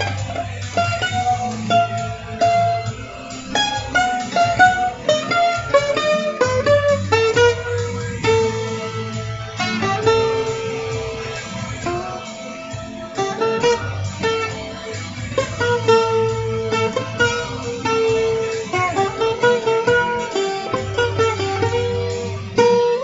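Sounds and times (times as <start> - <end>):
low backing music: 0.0 - 23.0
plucked guitar notes: 0.0 - 23.0.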